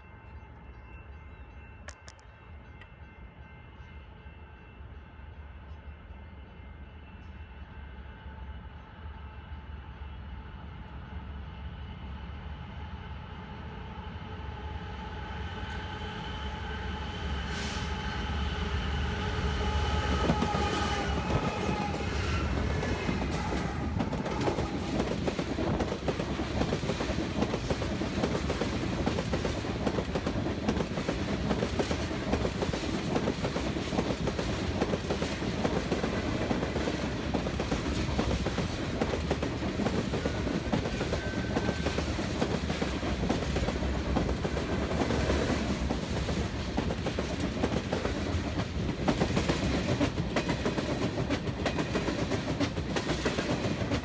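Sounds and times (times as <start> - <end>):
diesel locomotives passing: 0.0 - 54.0.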